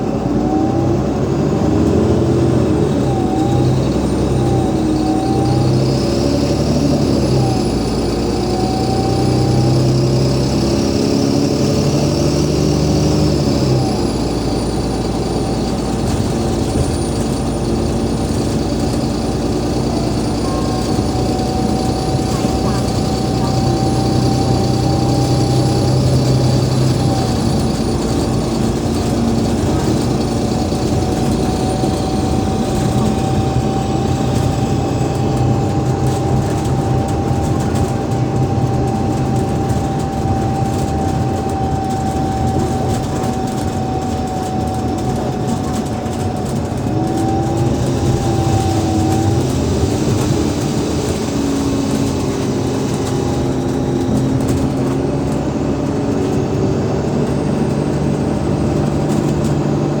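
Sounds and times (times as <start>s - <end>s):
bus engine humming: 0.0s - 60.0s
lower whines shifting in pitch: 0.0s - 60.0s
thin whine: 2.7s - 59.6s.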